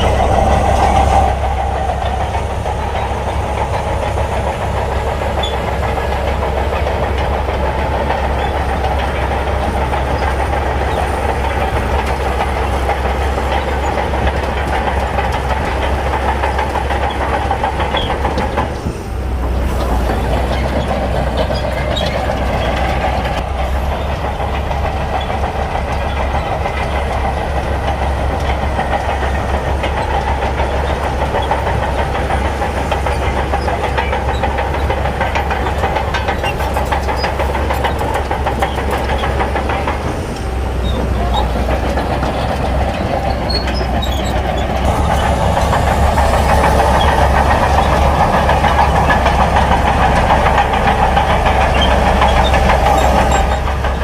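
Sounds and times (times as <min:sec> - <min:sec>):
diesel earthmoving machinery rumbling: 0:00.0 - 0:54.0
rattling noise: 0:00.0 - 0:54.0.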